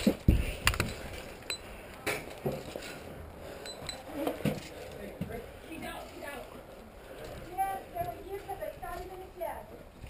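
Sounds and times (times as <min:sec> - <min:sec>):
carried gear clinking and rattling: 0:00.0 - 0:05.1, 0:05.9 - 0:10.0
footsteps: 0:00.0 - 0:10.0.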